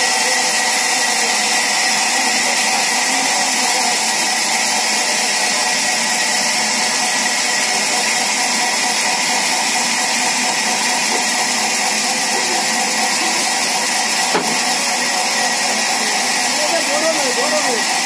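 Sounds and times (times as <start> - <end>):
band saw cutting wood: 0.0 - 18.0.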